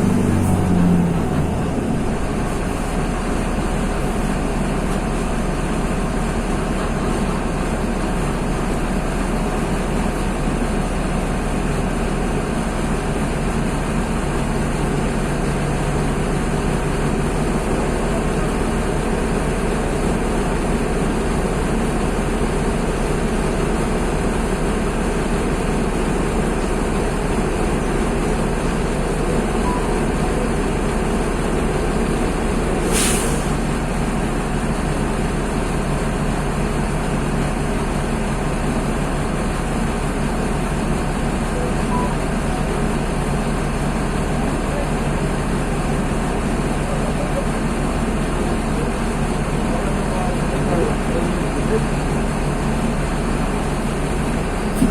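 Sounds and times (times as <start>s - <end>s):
diesel bus engine running: 0.0s - 54.9s.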